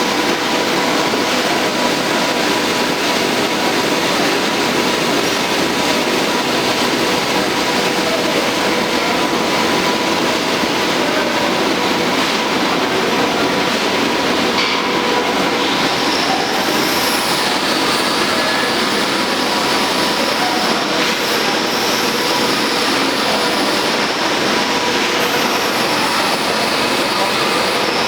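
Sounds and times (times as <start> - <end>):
slitting machine running: 0.0 - 28.0.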